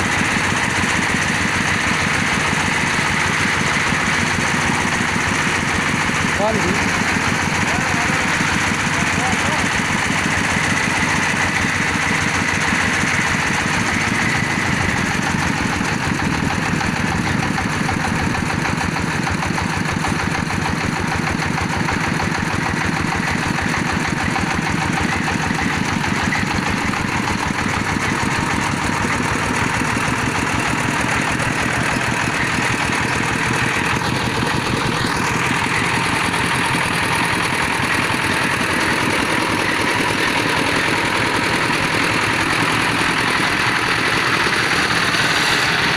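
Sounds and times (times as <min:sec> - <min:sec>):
drilling machine engine running: 0:00.0 - 0:45.9.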